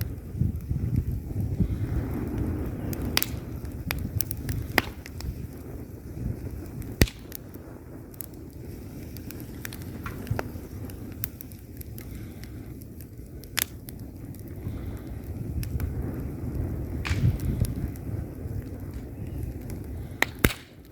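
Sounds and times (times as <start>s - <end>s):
fire flames rumbling: 0.0s - 20.9s
wood crackling and popping: 0.0s - 20.9s.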